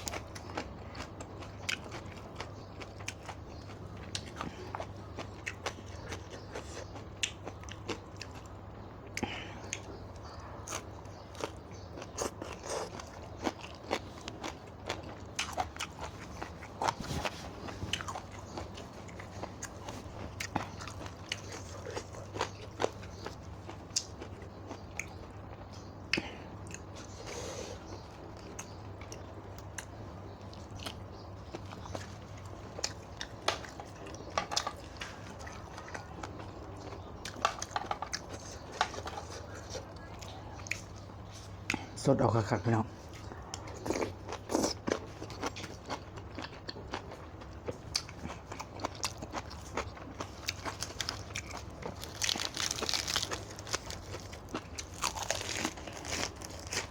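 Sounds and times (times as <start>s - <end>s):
person chewing crunchy food: 0.0s - 41.9s, 43.0s - 56.9s.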